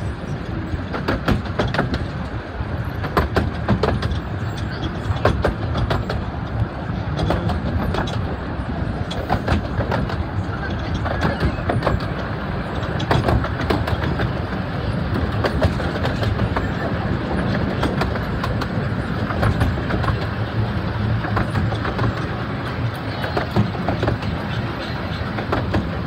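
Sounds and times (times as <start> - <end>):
train carriage rumbling: 0.0 - 26.0
wheel clicks and rattles: 0.0 - 26.0.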